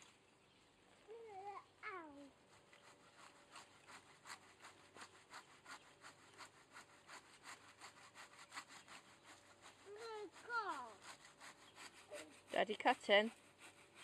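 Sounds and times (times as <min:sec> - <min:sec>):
hand saw cutting wood: 0:02.4 - 0:14.0.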